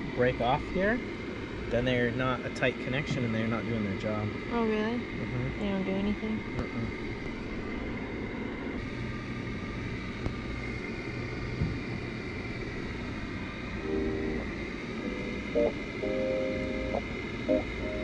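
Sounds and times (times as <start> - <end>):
faint high whine: 0.0 - 18.0
low mechanical hum: 0.0 - 18.0.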